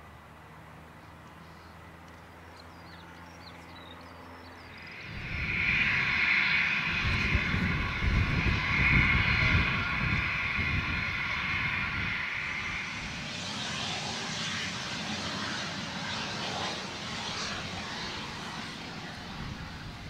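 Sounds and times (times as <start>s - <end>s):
jet engine whine: 0.0s - 20.0s
jet engine rush: 1.4s - 20.0s.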